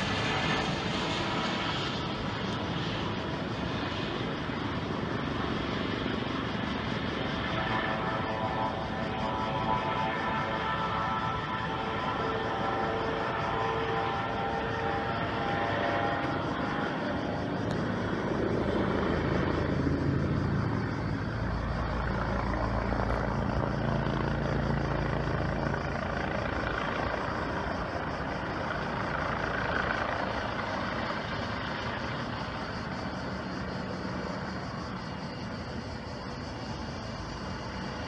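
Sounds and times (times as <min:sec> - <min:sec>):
engine drone: 0:00.0 - 0:38.0.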